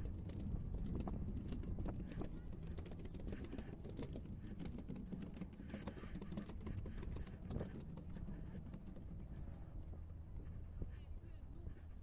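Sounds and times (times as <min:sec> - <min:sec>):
footsteps on wooden planks: 0:00.0 - 0:11.0
steady low rumble: 0:00.0 - 0:12.0.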